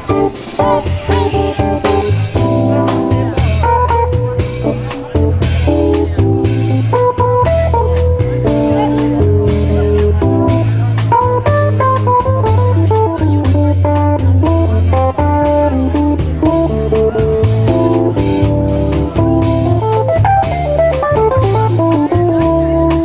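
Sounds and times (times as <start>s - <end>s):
bass guitar: 0.0s - 23.0s
drums: 0.0s - 23.0s
electric guitar melody: 0.0s - 23.0s.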